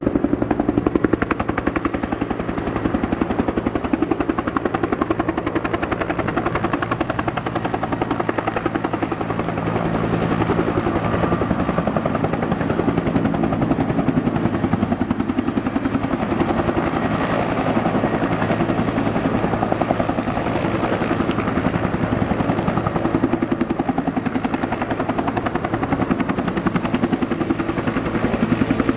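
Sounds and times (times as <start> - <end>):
helicopter engine hum: 0.0 - 28.9
helicopter rotor chopping: 0.0 - 28.9.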